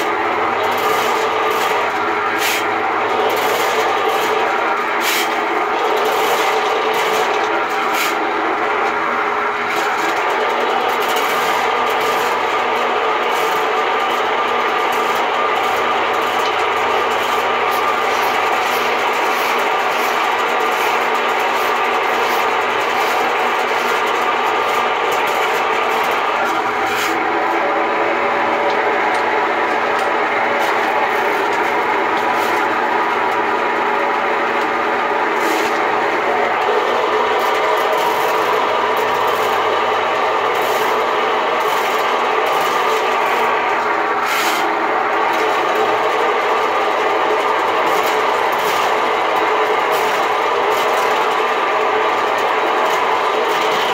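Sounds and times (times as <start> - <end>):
drain cleaning machine motor running: 0.0 - 53.9.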